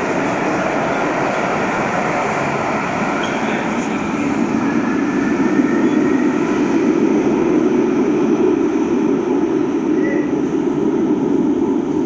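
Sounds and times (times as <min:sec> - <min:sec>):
train rumbling through station: 0:00.0 - 0:12.0.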